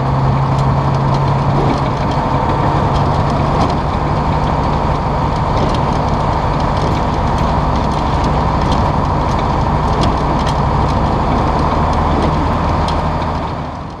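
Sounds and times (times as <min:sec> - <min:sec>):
diesel locomotive engine drone: 0:00.0 - 0:14.0
wheels rumbling on rails: 0:00.0 - 0:14.0.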